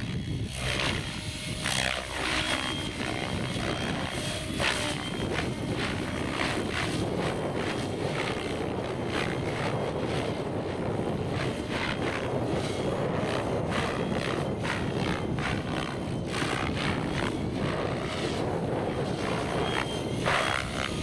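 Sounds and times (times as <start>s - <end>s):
model helicopter rotor whooshes: 0.0s - 21.0s
wind noise on microphone: 0.0s - 21.0s.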